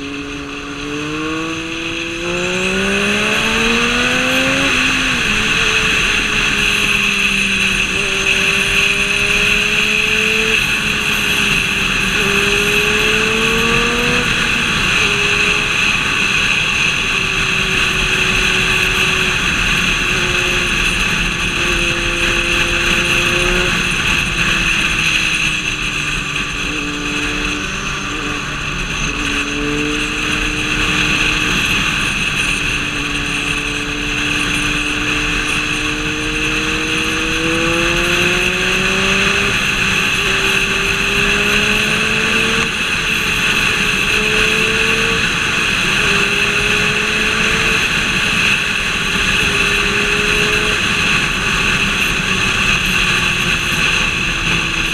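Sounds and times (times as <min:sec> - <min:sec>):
vehicle engine running: 0:00.0 - 0:54.9
wind and road noise hiss: 0:00.0 - 0:54.9.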